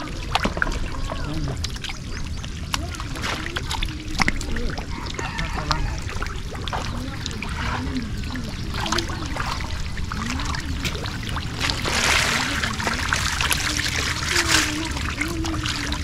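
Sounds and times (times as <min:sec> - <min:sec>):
faint wavering low hum: 0:00.0 - 0:16.0
fish splashing in shallow water: 0:00.0 - 0:16.0.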